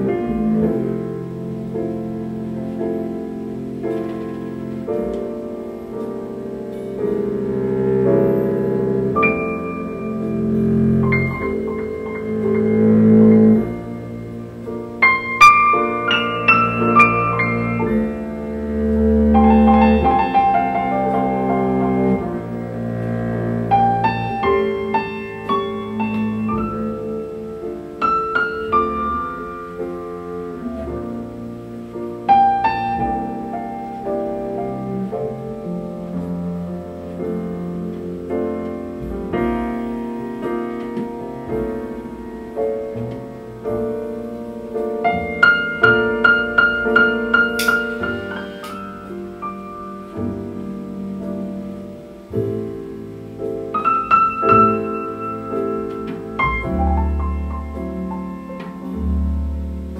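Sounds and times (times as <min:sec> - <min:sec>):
recorded piano music: 0:00.0 - 0:59.9.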